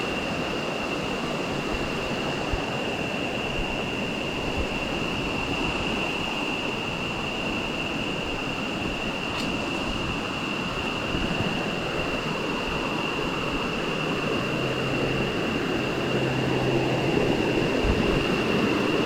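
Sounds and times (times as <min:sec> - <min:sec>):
high-pitched whine: 0:00.0 - 0:19.0.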